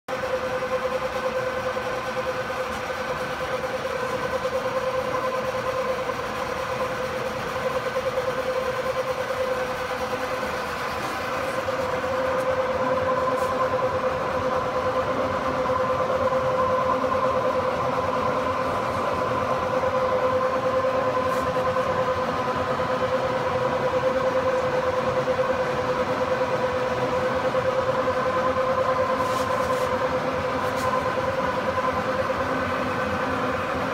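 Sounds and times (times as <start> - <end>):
machine hum with whine: 0.0 - 33.9.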